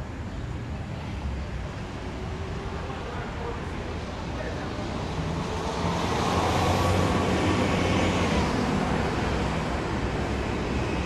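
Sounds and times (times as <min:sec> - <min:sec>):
bus engine drone: 0:00.0 - 0:11.0
passing car tyre hiss: 0:00.8 - 0:11.0.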